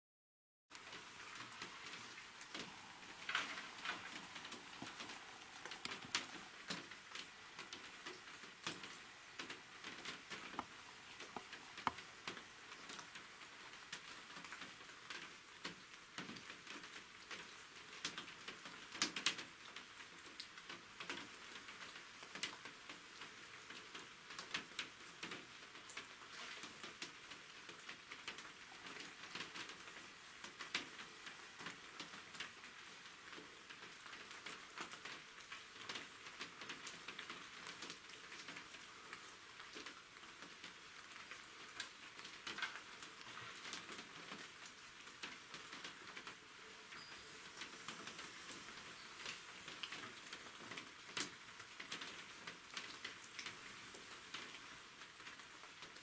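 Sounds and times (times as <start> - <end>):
light raindrops pattering: 0.7 - 56.0.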